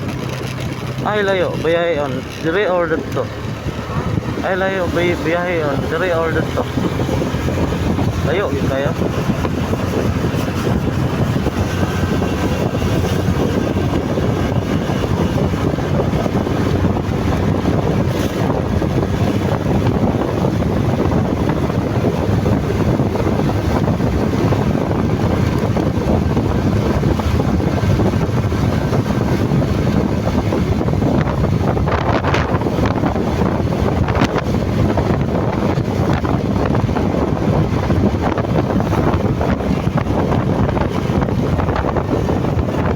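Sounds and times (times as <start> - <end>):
motorcycle engine: 0.0 - 42.9
road noise: 0.0 - 42.9
wind buffeting microphone: 0.0 - 42.9.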